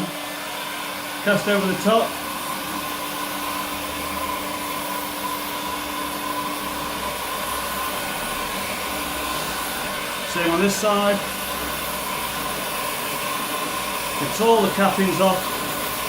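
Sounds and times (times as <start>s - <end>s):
heat gun blowing air: 0.0s - 16.0s.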